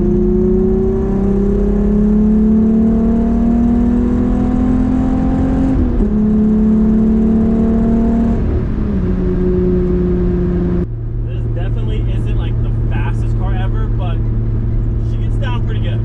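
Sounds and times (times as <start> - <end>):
car engine shifting up: 0.0 - 16.0.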